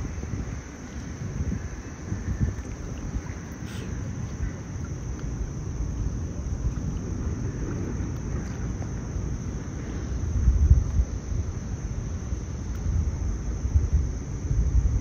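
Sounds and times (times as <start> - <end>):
high insect trill: 0.0 - 15.0
wind rumbling on microphone: 0.0 - 15.0.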